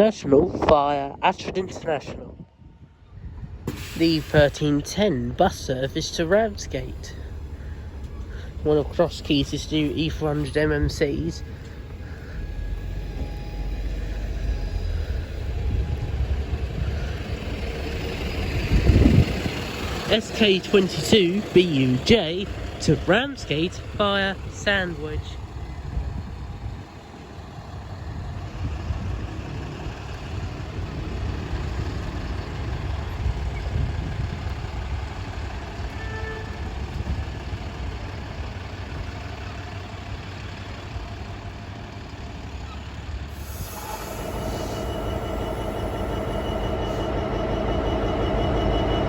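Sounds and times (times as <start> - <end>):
diesel locomotive throttling up: 0.0 - 49.0.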